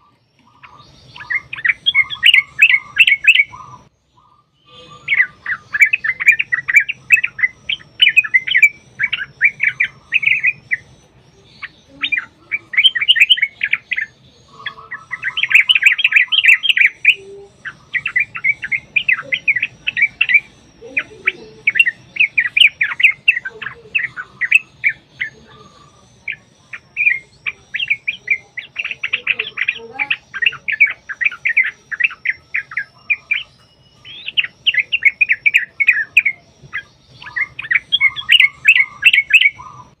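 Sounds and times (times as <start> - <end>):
bird chattering song: 0.0 - 40.0.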